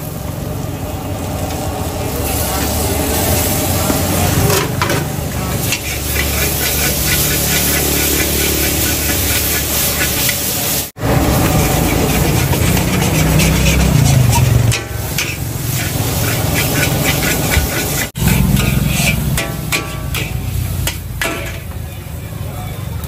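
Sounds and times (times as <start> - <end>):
noodles sizzling in a wok: 0.0 - 22.2
gas burner roaring: 0.0 - 23.0
metal spatula scraping a wok: 2.3 - 21.8.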